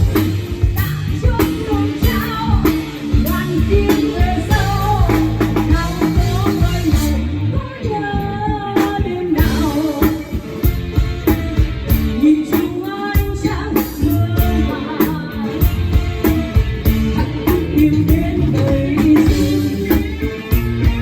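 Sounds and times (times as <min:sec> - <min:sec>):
person singing: 0:00.0 - 0:10.7, 0:12.1 - 0:20.6
heavy bass: 0:00.0 - 0:21.0
steady drum beat: 0:00.0 - 0:21.0.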